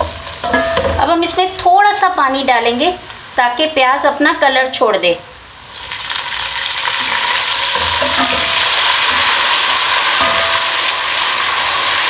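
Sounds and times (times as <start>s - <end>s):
onions sizzling in oil: 0.0s - 4.8s, 5.6s - 12.0s.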